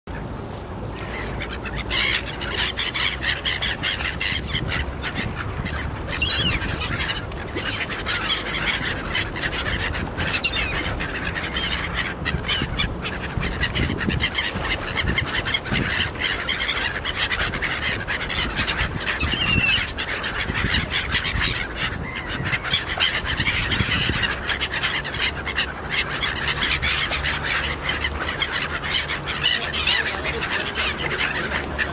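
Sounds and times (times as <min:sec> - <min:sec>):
gulls calling: 0:00.1 - 0:31.9.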